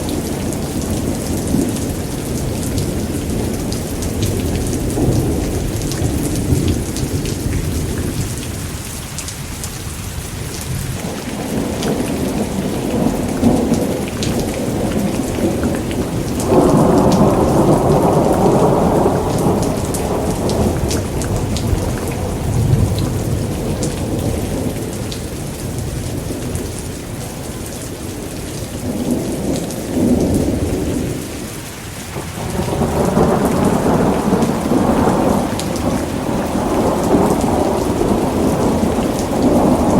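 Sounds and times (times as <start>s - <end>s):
thunder rumbling: 0.0s - 8.8s, 10.4s - 31.5s, 32.1s - 39.9s
heavy rain: 0.0s - 39.9s.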